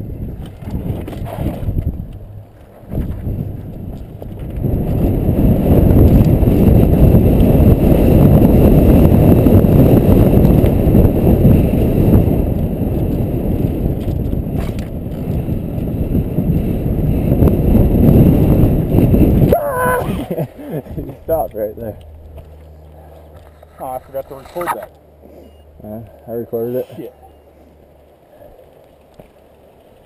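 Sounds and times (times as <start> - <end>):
mountain bike tyres on dirt trail: 0.0 - 30.0
wind rumble on microphone: 0.0 - 30.0.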